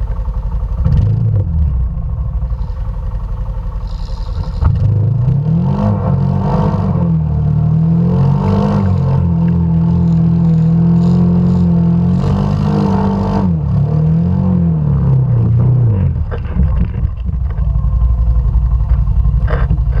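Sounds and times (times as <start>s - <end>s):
atv engine revving and idling: 0.0s - 20.0s.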